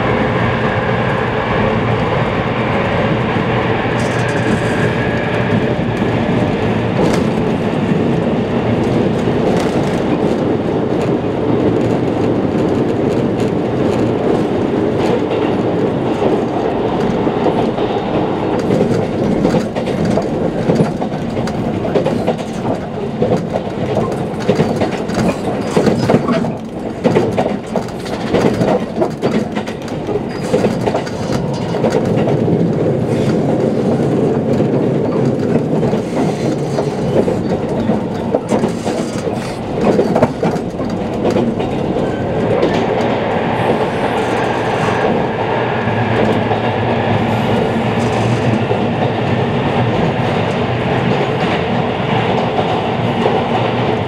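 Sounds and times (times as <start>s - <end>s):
train roaring in tunnel: 0.0s - 54.0s
train wheels drumming on rails: 0.0s - 54.0s
rail-joint clicks: 3.9s - 8.1s, 8.7s - 45.4s, 47.5s - 54.0s.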